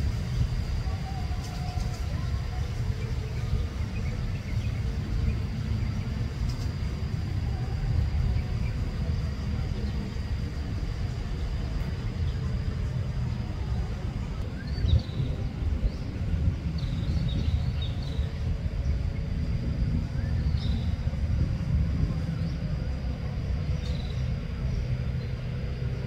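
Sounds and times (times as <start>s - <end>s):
faint high whine: 0.0s - 26.0s
low rumble: 0.0s - 26.0s.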